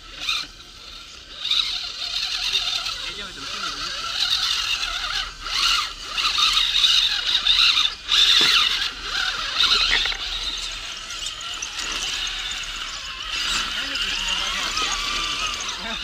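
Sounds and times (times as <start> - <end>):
toy car electric motor whining: 0.0 - 16.0.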